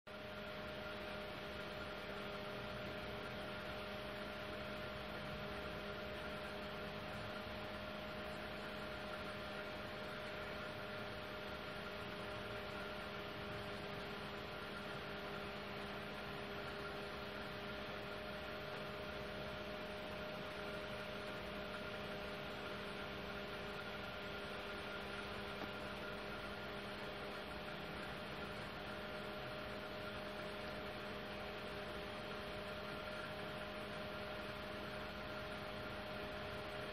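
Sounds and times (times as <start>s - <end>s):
electrical hum with tones: 0.1s - 36.9s.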